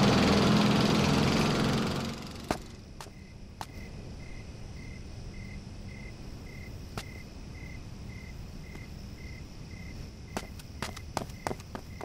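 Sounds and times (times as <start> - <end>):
cricket chirping: 2.4 - 12.0.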